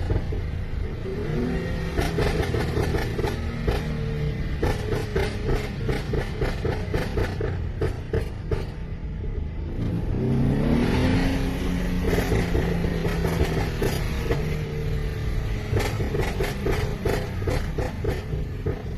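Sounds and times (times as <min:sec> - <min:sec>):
car engine accelerating: 0:00.0 - 0:08.8, 0:09.6 - 0:18.9
exhaust crackling and popping: 0:00.0 - 0:09.2, 0:11.8 - 0:18.9.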